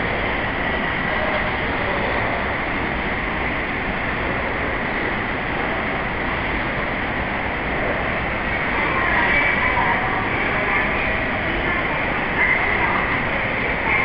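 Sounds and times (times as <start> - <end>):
subway platform rumble and hiss: 0.0 - 14.0.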